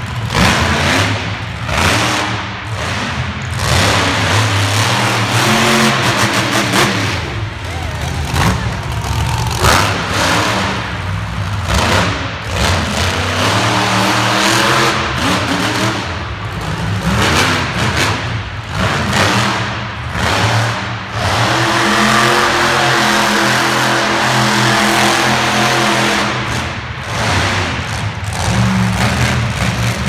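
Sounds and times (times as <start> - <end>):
monster truck engine revving: 0.0 - 30.0.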